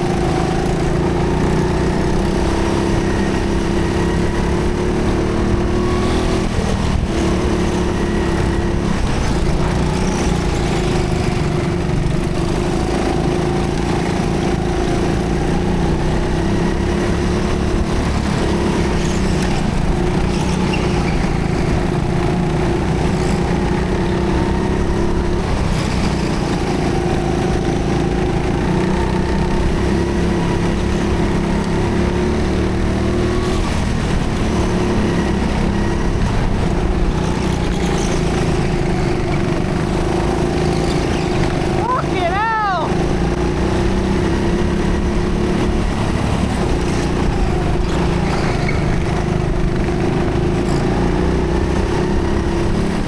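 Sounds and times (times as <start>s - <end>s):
go-kart engine droning: 0.0s - 53.0s.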